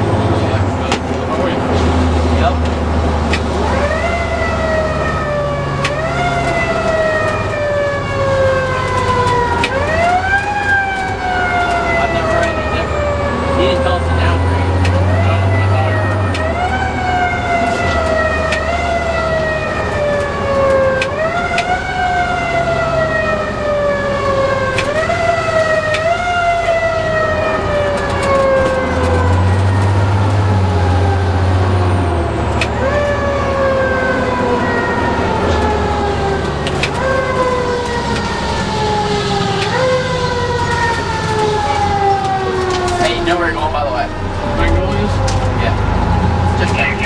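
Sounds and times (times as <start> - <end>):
fire truck siren wailing: 0.0 - 47.0.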